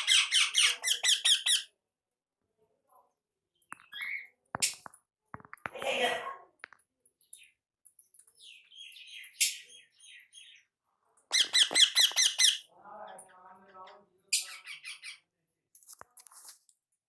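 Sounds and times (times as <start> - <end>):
small birds chirping and squawking: 0.0 - 1.8, 3.5 - 15.5.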